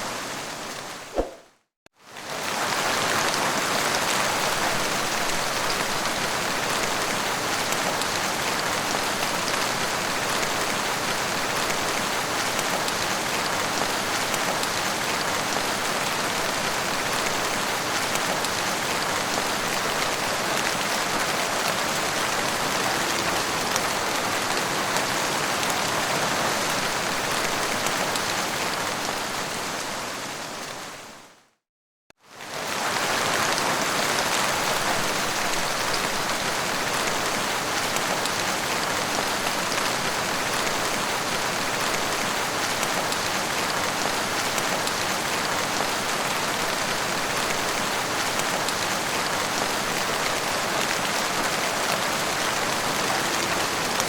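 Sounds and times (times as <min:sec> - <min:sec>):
heavy rain falling: 0:02.2 - 0:31.0, 0:32.4 - 0:54.0.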